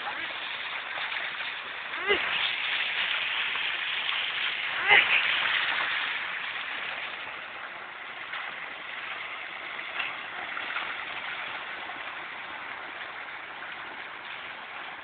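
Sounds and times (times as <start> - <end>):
water gushing into a pool: 0.0 - 15.0.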